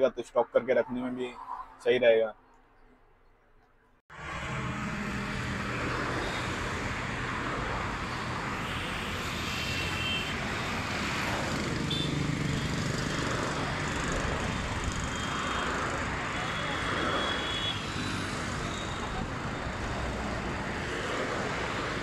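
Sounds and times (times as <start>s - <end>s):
highway traffic passing: 4.1s - 22.0s.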